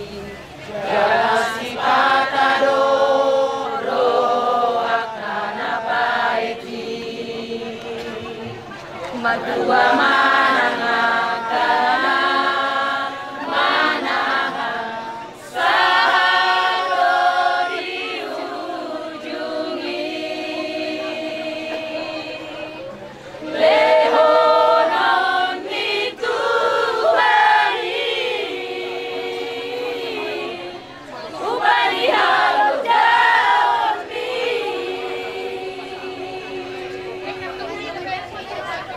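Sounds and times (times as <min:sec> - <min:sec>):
group singing in unison: 0:00.0 - 0:38.8.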